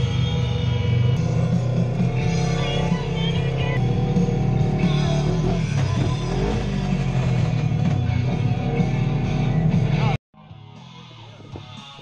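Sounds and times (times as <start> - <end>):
music with guitar and drums: 0.0 - 12.0.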